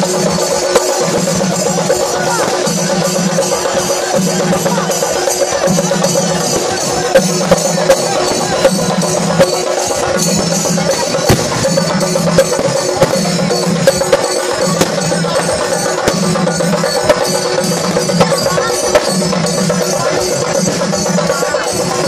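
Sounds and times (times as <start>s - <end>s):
drums beaten rapidly with sticks: 0.0s - 22.0s
hand cymbals clashing: 0.0s - 22.0s.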